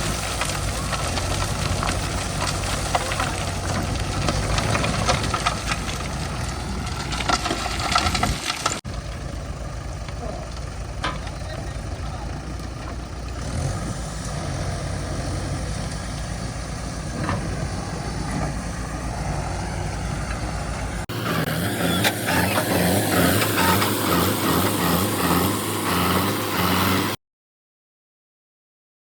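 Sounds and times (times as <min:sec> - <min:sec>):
diesel engine low pulsing: 0:00.0 - 0:27.2
heavy diesel engine running: 0:00.0 - 0:27.2.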